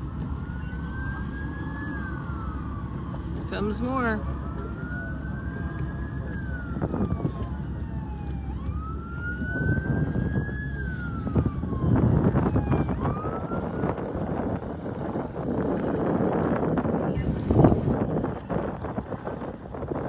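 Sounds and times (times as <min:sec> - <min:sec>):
emergency siren wailing: 0:00.0 - 0:17.1
low rumbling noise: 0:00.0 - 0:20.0.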